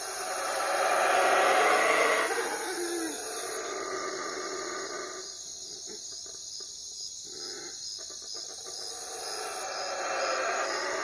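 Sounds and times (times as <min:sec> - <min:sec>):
crickets chirping: 0:00.0 - 0:11.0
soft night ambience hiss: 0:00.0 - 0:11.0.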